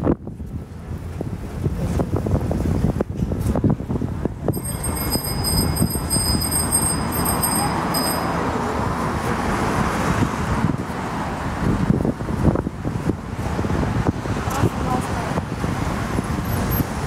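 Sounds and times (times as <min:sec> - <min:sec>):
street traffic passing: 0:00.0 - 0:17.0
wind on microphone: 0:00.0 - 0:17.0.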